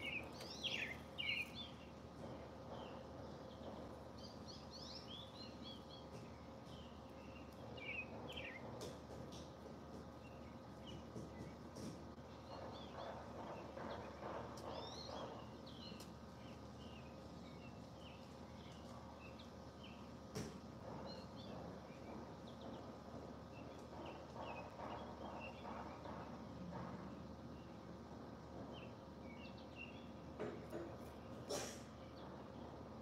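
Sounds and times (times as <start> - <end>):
faint outdoor hum: 0.0 - 33.0.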